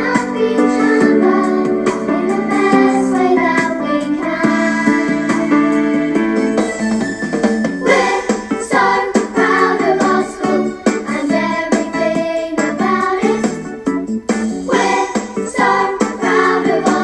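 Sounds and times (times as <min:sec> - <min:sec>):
backing track: 0:00.0 - 0:17.0
children's song singing: 0:00.0 - 0:17.0.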